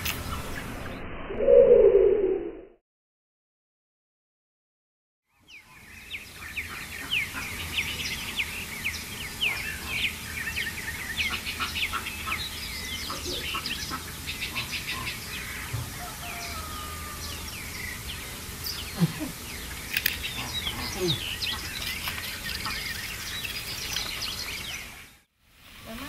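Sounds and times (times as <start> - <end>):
birds chirping and calling: 0.0 - 2.3, 5.3 - 25.2.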